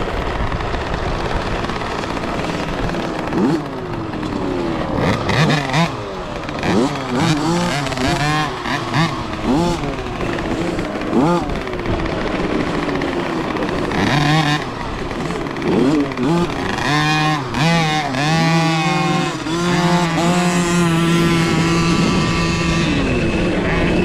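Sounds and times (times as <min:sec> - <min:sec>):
dirt bike motors revving: 0:00.0 - 0:24.0.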